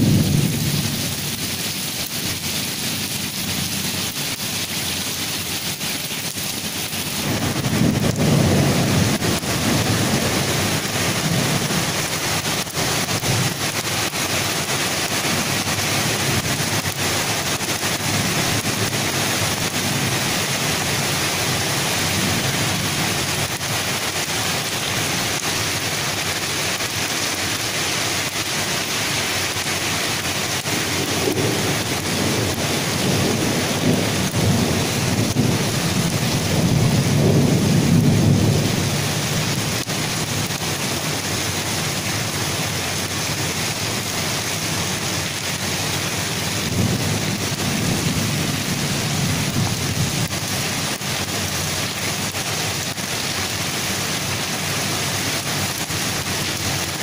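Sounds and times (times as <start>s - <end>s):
thunder rumbling: 0.0s - 53.7s
heavy rain falling: 0.0s - 57.0s.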